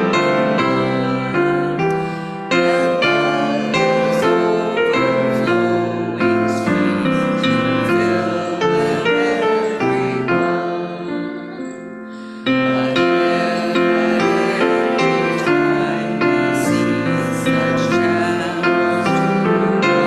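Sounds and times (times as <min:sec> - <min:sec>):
congregation singing: 0:00.0 - 0:20.0
hymn on piano: 0:00.0 - 0:20.0.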